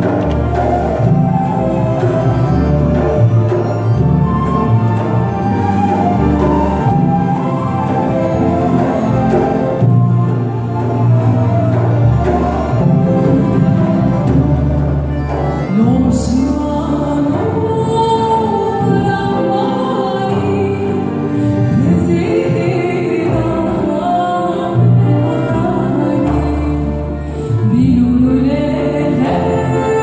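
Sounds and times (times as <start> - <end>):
orchestra low bass notes: 0.0 - 30.0.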